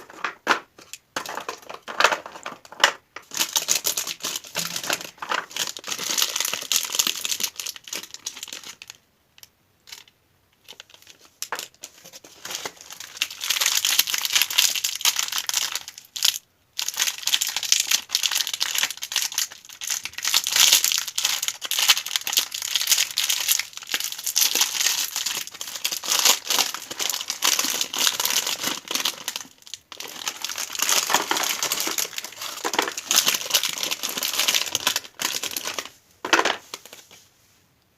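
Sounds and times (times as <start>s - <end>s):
candy wrappers crinkling: 0.0s - 37.2s.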